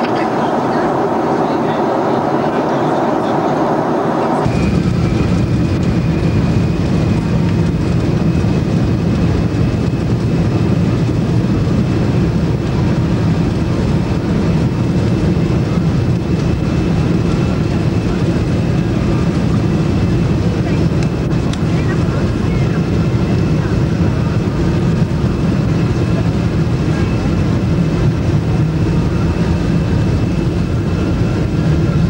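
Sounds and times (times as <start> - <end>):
airliner cabin rumble: 0.0 - 32.0
high engine whine: 0.0 - 32.0.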